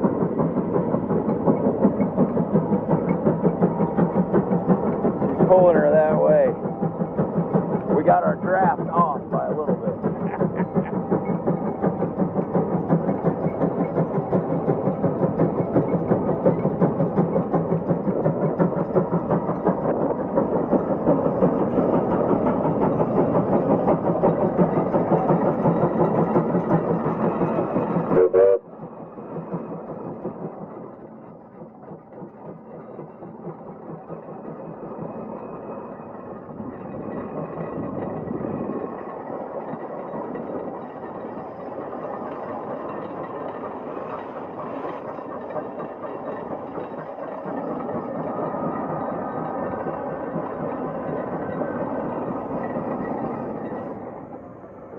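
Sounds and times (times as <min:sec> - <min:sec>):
steam engine exhaust chuffing: 0:00.0 - 0:54.3.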